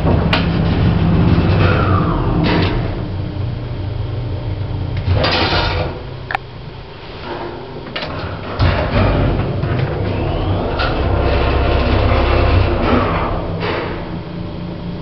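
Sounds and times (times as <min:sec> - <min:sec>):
lift machinery humming: 0:00.0 - 0:15.0.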